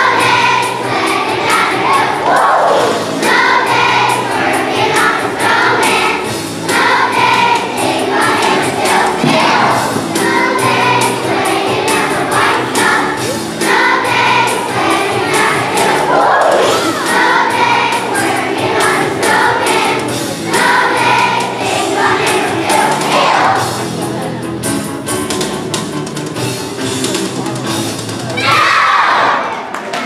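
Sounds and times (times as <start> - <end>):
children's choir singing: 0.0 - 24.3, 28.4 - 29.7
musical accompaniment with beat: 0.0 - 28.4.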